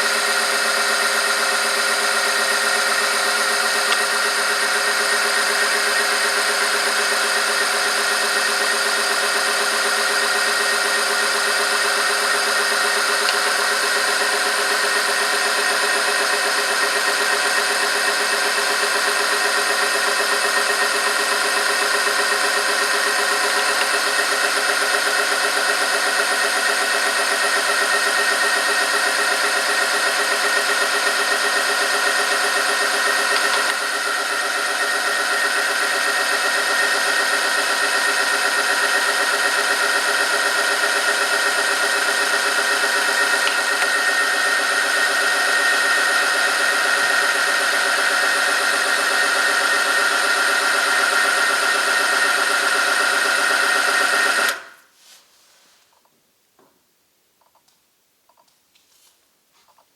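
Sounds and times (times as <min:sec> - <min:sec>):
machine motor whining: 0:00.0 - 0:54.8.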